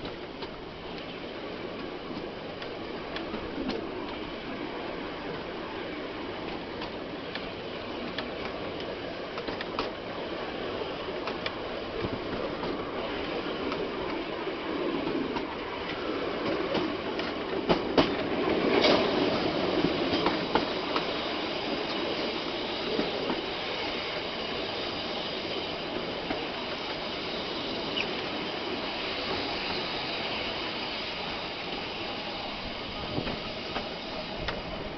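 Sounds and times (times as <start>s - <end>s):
train wheels clicking on rails: 0.0s - 34.9s.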